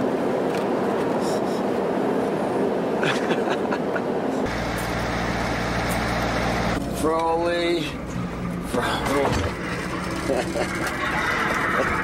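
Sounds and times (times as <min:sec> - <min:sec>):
bus rumble from inside: 0:00.0 - 0:12.0
low engine hum: 0:00.0 - 0:12.0.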